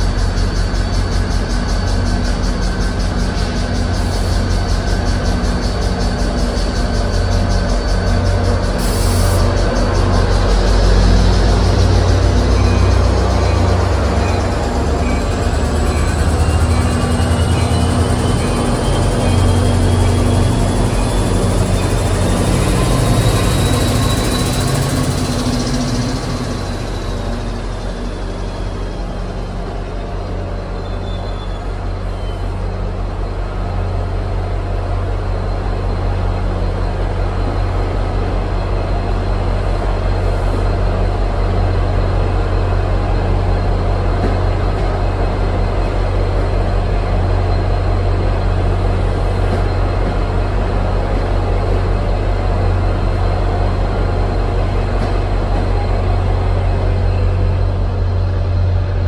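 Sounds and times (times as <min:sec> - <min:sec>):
locomotive engine droning: 0:00.0 - 0:59.0
train rolling slowly past: 0:00.0 - 0:59.0.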